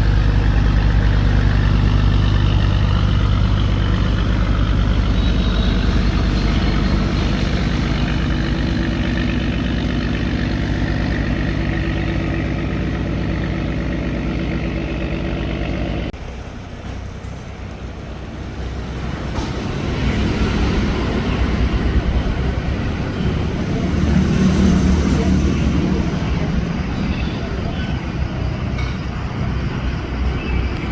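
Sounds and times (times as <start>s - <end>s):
boat engine throbbing: 0.0s - 16.7s, 17.8s - 30.2s.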